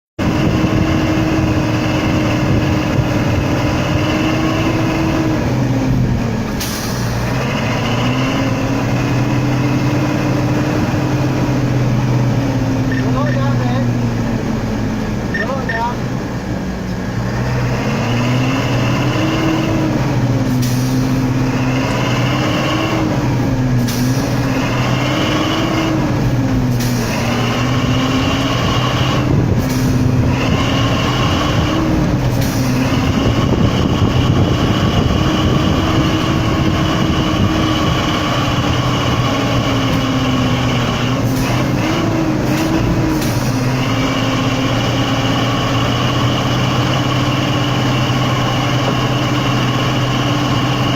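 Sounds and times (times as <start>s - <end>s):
diesel truck engine under load: 0.2s - 50.9s.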